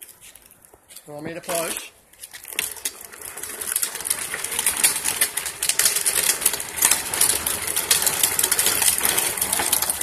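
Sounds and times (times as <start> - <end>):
plastic wheels rattling on concrete: 0.0 - 10.0.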